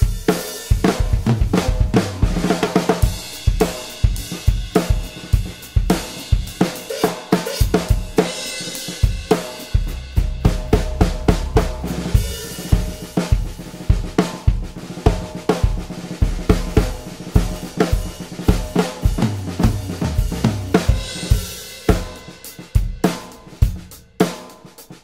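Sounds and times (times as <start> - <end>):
cymbals: 0.0 - 25.0
ringing metal snare drum: 0.0 - 25.0.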